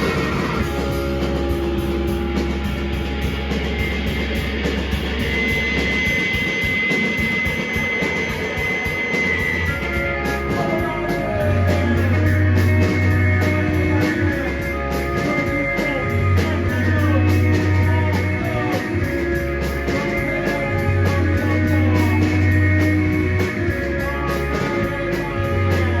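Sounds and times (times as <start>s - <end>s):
bass: 0.0s - 26.0s
drums and cymbals: 0.0s - 26.0s
electric guitars: 0.0s - 26.0s.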